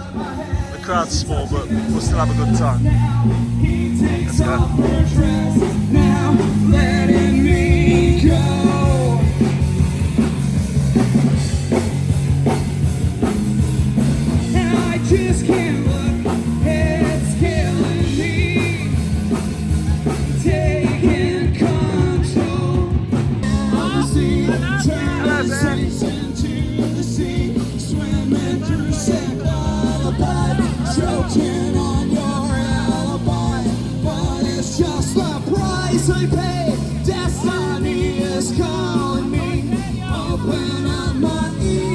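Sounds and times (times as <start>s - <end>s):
person singing: 0.0s - 9.8s, 14.4s - 19.3s, 19.9s - 41.9s
band music: 0.0s - 41.9s
drums keeping a beat: 0.0s - 41.9s.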